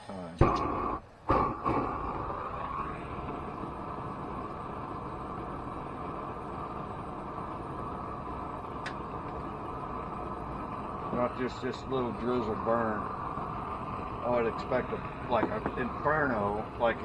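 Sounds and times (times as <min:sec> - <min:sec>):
propane torch hissing: 0:00.0 - 0:17.0.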